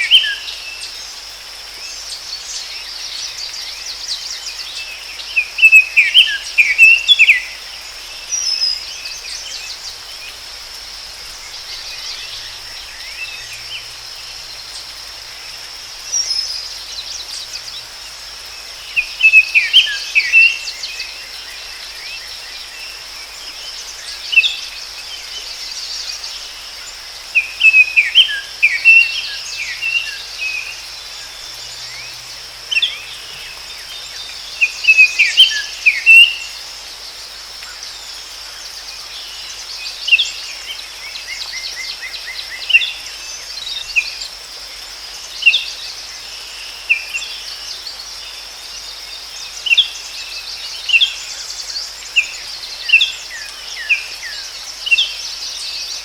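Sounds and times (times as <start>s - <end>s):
soft hiss: 0.0s - 56.0s
songbird chirping: 0.0s - 56.0s.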